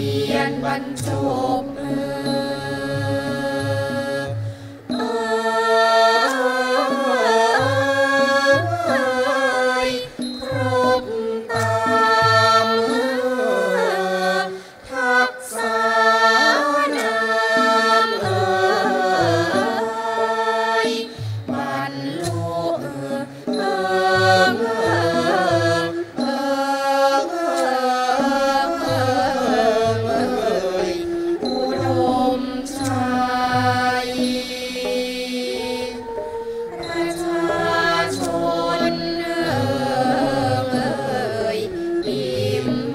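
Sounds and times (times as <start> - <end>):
chorus singing: 0.0 - 42.9
traditional ensemble playing: 0.0 - 42.9.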